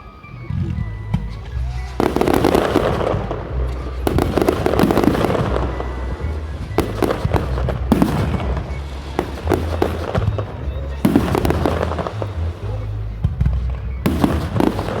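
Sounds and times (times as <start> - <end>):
fireworks crackling bursts: 0.1 - 15.0.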